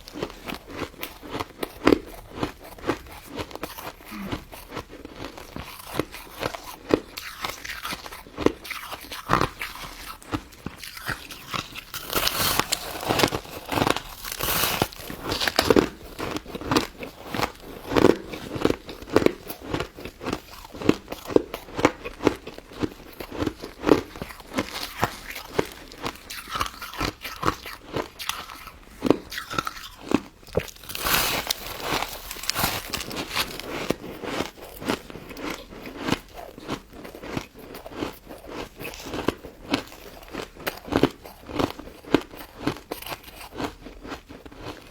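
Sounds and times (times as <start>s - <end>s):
crunching and chewing ice: 0.0s - 44.9s.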